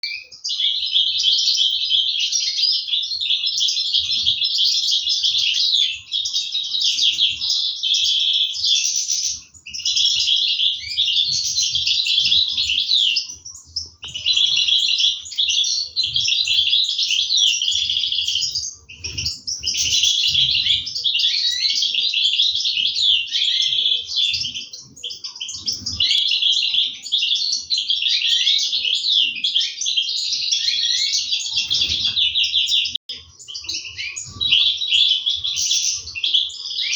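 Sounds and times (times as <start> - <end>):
finches chirping and twittering: 0.0 - 36.9.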